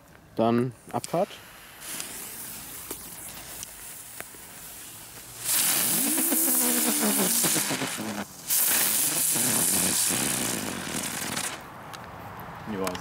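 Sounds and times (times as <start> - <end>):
ground-spinner fireworks hissing: 0.8 - 11.7.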